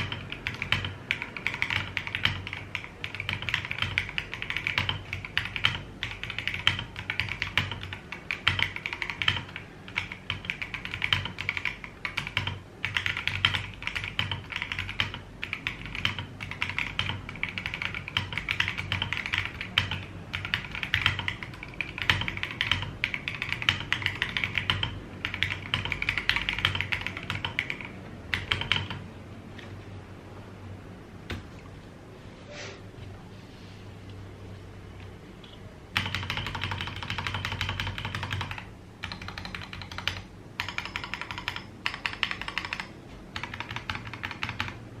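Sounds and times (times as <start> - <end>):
mechanical keyboard typing: 0.0 - 29.1, 35.4 - 45.0.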